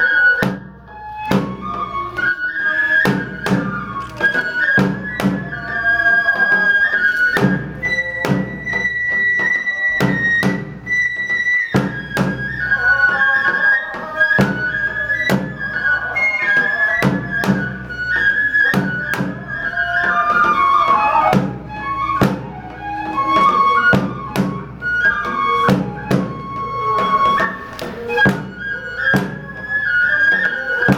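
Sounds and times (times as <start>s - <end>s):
bamboo flute melody: 0.0s - 30.9s
regular drum strokes: 0.2s - 30.9s.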